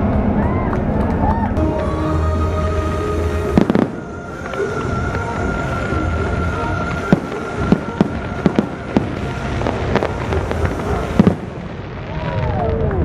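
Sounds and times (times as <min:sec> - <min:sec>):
constant low rumble: 0:00.0 - 0:13.0
fireworks bangs and cracks: 0:00.0 - 0:13.0.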